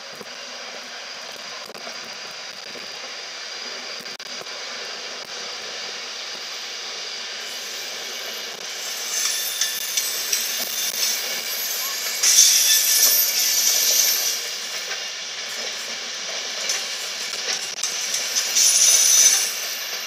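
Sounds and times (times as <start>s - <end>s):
electric train humming: 2.9s - 20.0s.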